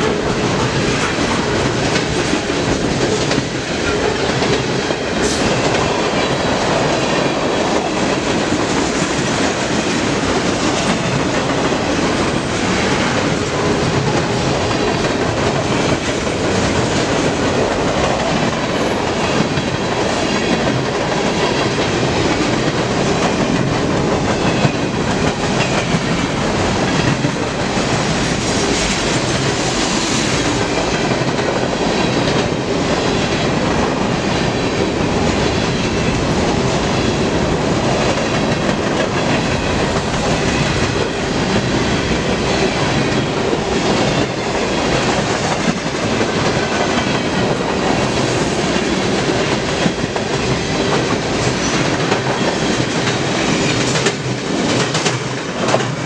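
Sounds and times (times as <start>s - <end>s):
train cars rolling past: 0.0s - 56.0s.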